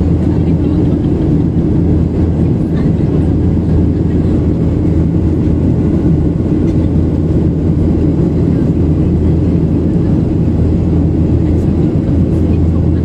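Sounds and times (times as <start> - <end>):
airplane cabin rumble in flight: 0.0 - 13.0.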